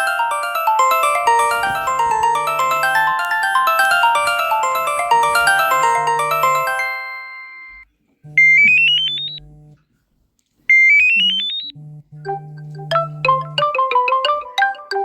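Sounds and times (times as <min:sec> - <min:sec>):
electronic phone ringtones: 0:00.0 - 0:07.8, 0:08.4 - 0:09.4, 0:11.0 - 0:15.0.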